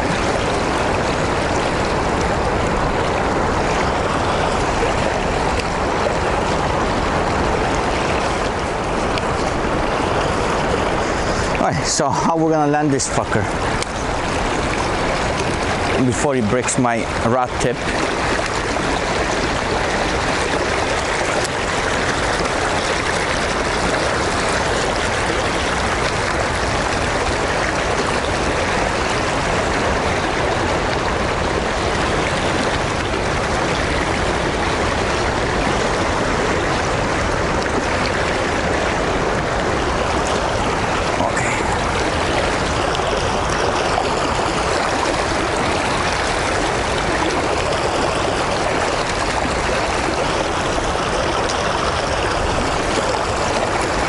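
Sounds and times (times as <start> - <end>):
river current rushing: 0.0 - 54.0.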